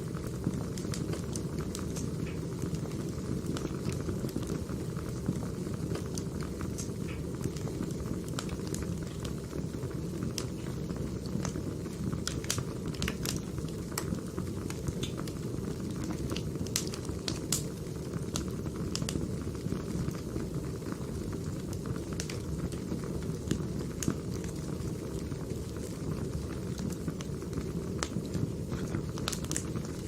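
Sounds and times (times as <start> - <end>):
crackling log fire: 0.0 - 30.0.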